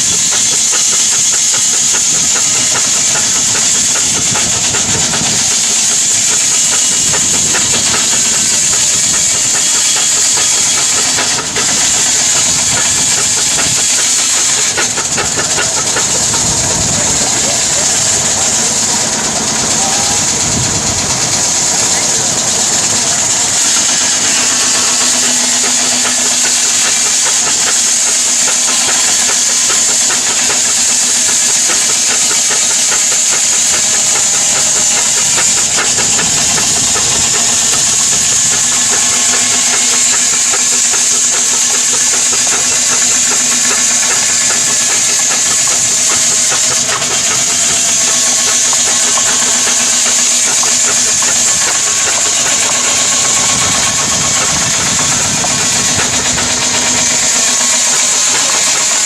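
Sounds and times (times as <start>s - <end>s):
engine running: 0.0s - 59.0s
high hiss: 0.0s - 59.0s.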